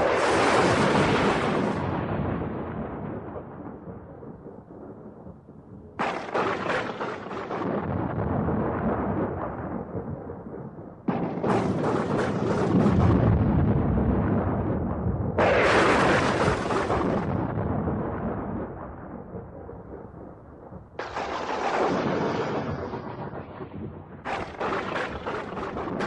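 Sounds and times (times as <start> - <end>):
thunder cracks: 0.0 - 26.0
thunder rumble: 0.0 - 26.0.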